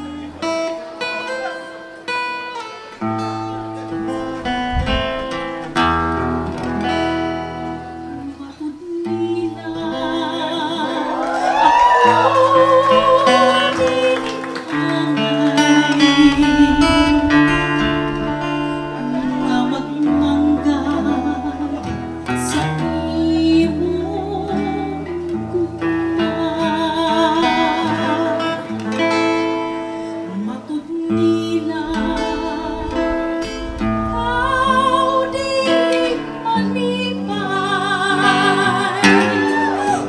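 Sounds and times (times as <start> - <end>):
acoustic guitar: 0.0 - 40.0
woman singing: 6.8 - 40.0.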